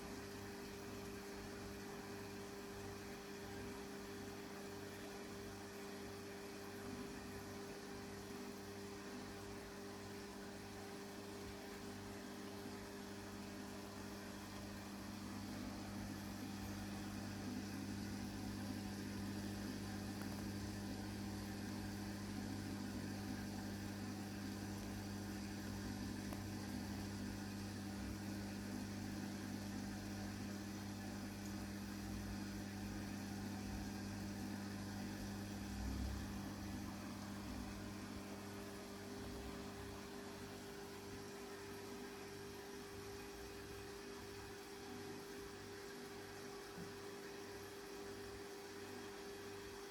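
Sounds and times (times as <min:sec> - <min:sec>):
aquarium pump humming: 0:00.0 - 0:49.9.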